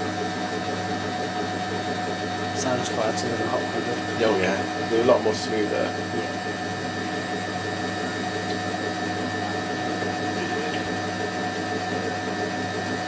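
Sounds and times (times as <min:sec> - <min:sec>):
washing machine spinning: 0:00.0 - 0:13.0.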